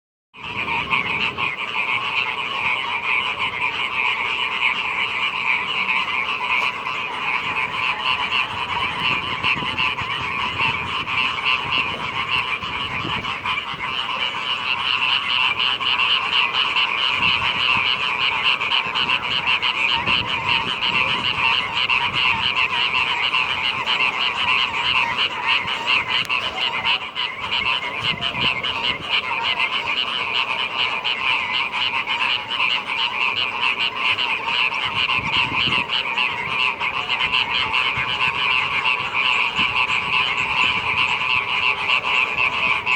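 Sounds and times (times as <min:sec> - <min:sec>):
frogs croaking in chorus: 0:00.4 - 0:42.9.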